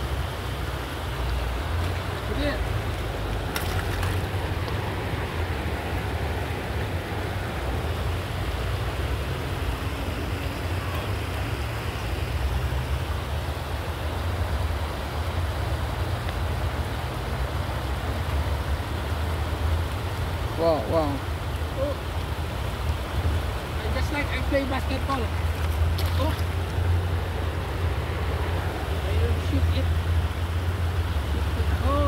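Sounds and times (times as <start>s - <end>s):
river rushing over stones: 0.0s - 32.0s.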